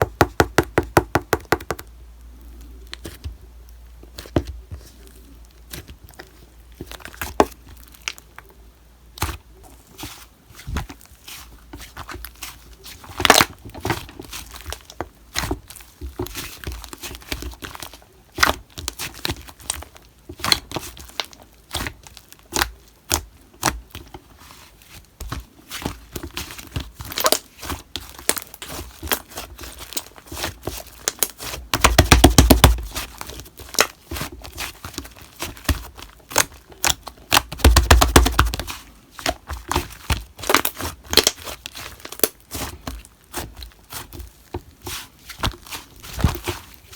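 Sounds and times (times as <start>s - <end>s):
slime squishing with sticky pops: 0.0s - 46.9s
slime fast crackling: 9.2s - 46.9s.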